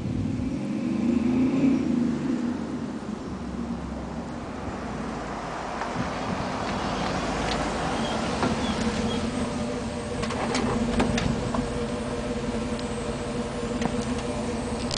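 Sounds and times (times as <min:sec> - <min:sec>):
truck exhaust drone: 0:00.0 - 0:14.9.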